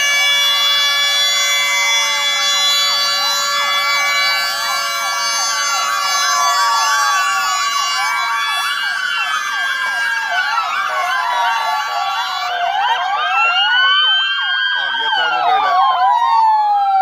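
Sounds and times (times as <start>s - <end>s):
sirens wailing and yelping: 0.0s - 17.0s.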